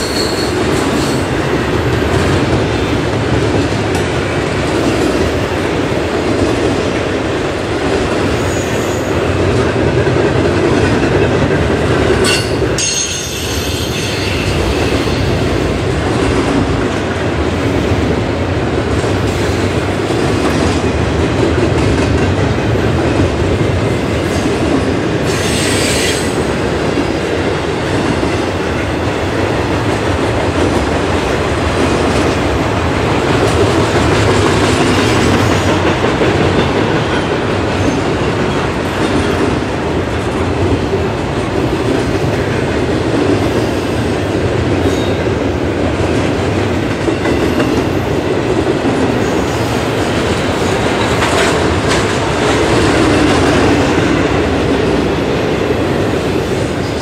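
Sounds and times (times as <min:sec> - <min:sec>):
rumble of steel wheels on rail: 0:00.0 - 0:57.0.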